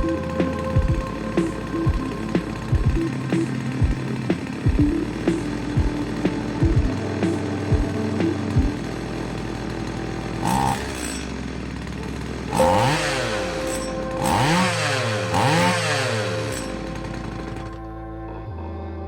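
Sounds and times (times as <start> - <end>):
chainsaw running and revving: 0.0 - 17.8.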